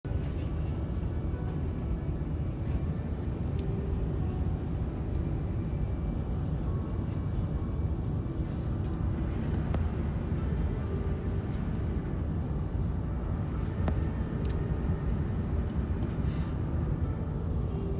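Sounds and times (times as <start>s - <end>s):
aircraft cabin rumble: 0.1s - 17.9s.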